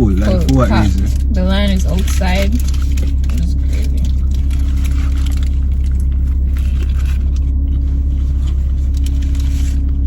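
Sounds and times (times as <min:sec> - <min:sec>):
vehicle engine and road rumble: 0:00.0 - 0:10.0
faint clicks and rustles: 0:00.2 - 0:10.0.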